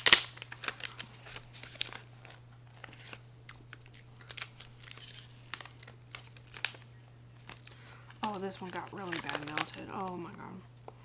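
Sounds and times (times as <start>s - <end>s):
wrapper crinkling: 0.0s - 10.6s.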